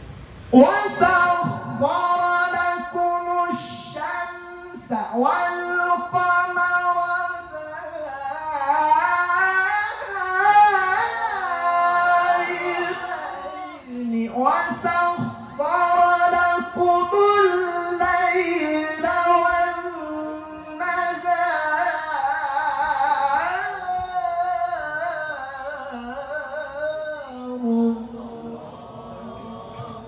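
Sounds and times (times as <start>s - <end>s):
man chanting melismatic recitation: 0.4s - 30.0s.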